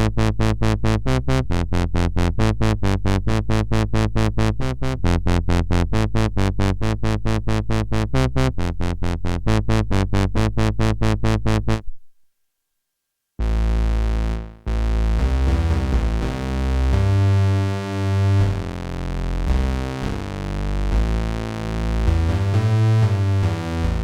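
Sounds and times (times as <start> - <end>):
synthesizer deep bass notes: 0.0 - 11.8, 13.4 - 24.0.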